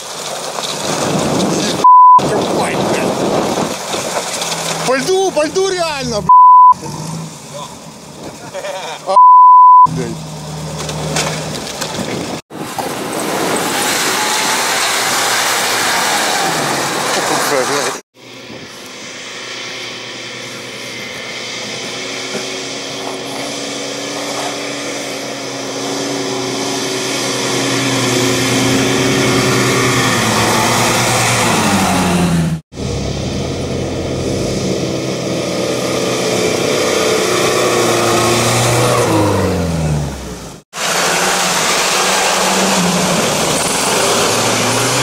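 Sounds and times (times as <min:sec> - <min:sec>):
off-road vehicle engine in mud: 0:00.0 - 0:45.0.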